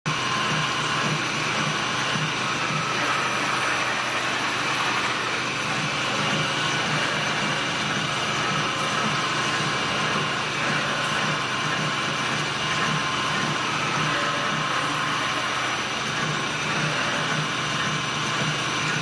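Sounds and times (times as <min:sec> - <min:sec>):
drilling machine running: 0:00.1 - 0:19.0.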